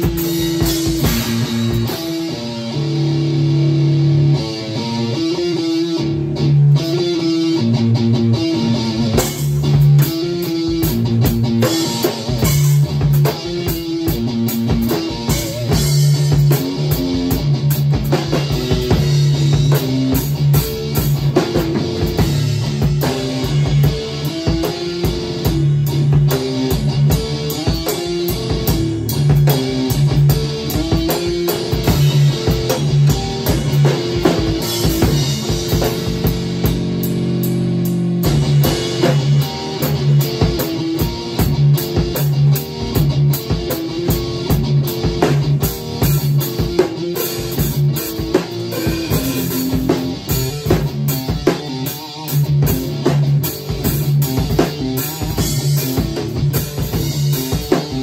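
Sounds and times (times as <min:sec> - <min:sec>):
drum beat: 0:00.0 - 0:03.4, 0:07.7 - 0:58.0
electric guitar riffs: 0:00.0 - 0:58.0.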